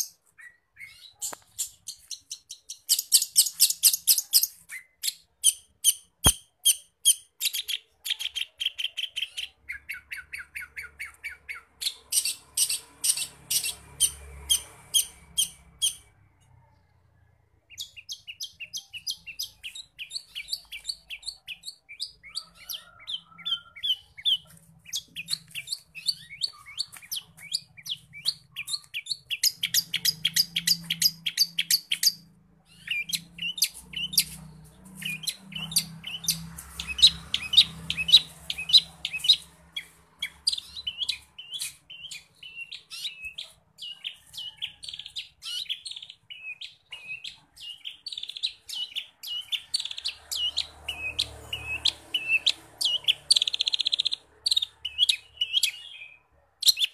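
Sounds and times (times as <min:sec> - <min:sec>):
bird singing rapid high chirps: 0:00.0 - 0:16.2, 0:17.6 - 0:56.9.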